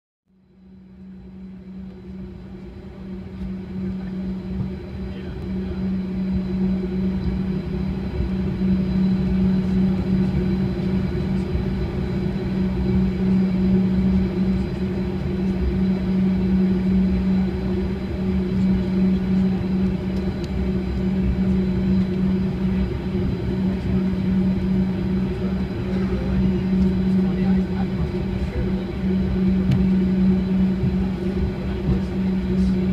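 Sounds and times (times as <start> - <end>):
faint high whine: 0.3 - 32.9
jet engine hum and rumble: 0.3 - 32.9.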